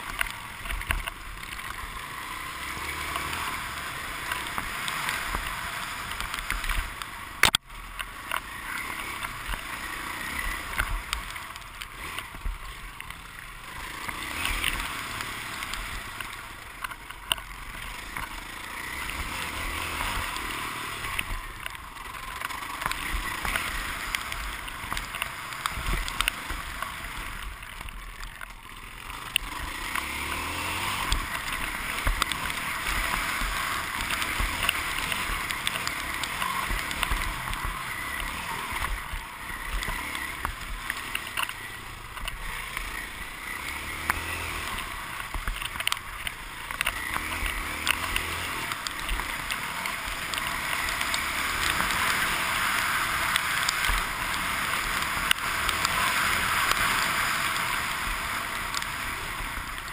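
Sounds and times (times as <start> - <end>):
motocross bike engine running hard: 0.0 - 59.9.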